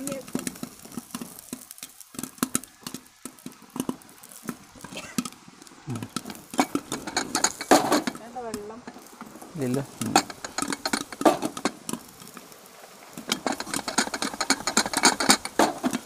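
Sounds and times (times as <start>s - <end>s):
popcorn popping in a pot: 0.0s - 16.0s.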